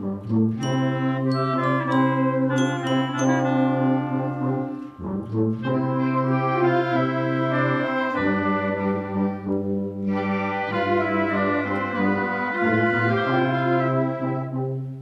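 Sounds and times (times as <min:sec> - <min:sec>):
brass ensemble playing chords: 0:00.0 - 0:15.0.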